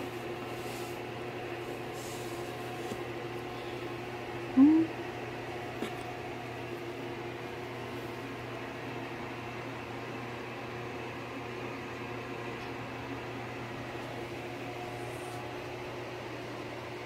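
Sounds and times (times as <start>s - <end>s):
appliance mechanical hum: 0.0s - 17.0s.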